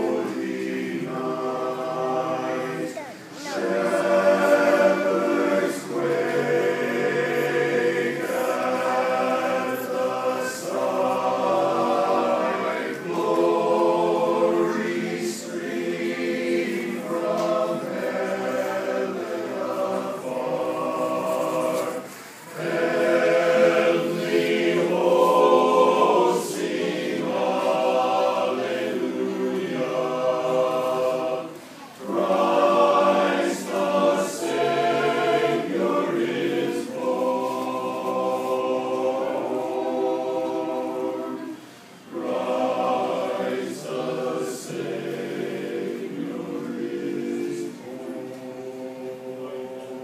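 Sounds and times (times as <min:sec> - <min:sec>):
men's chorus singing a cappella: 0:00.0 - 0:50.0.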